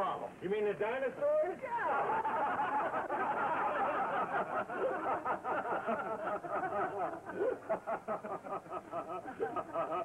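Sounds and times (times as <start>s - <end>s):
crowd of men laughing: 1.8s - 10.0s.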